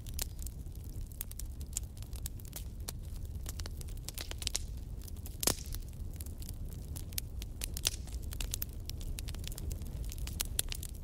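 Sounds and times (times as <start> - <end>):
low rumble of flames: 0.0 - 11.0
wood fire crackling: 0.0 - 11.0.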